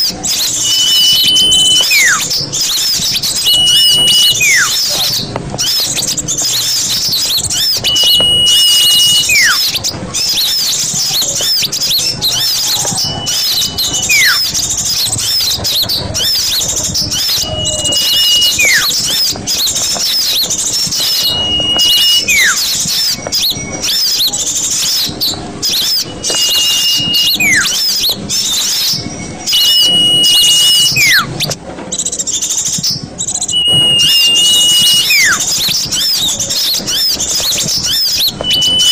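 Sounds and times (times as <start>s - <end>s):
high bird twittering chirps: 0.0s - 38.9s
steady then falling whistle: 0.0s - 38.9s.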